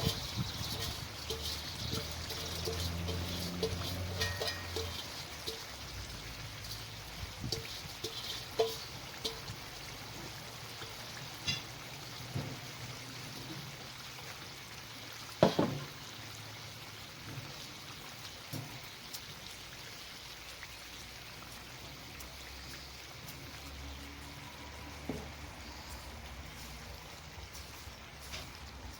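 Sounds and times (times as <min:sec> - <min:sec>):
food sizzling in a pot: 0:00.0 - 0:28.9.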